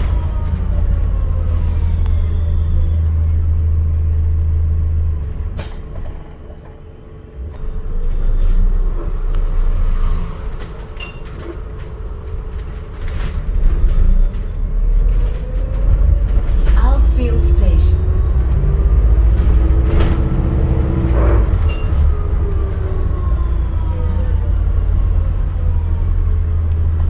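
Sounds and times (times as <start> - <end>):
bus engine low drone: 0.0 - 27.0.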